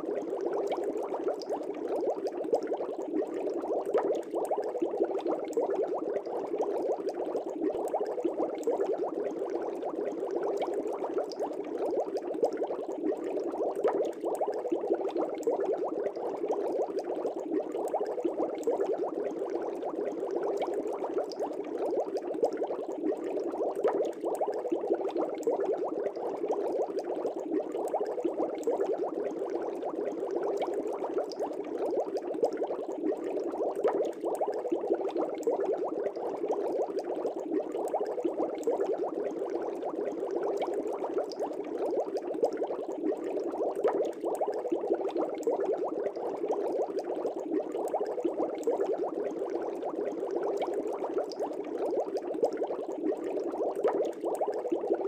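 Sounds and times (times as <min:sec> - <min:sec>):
air bubbling through water: 0:00.0 - 0:55.0.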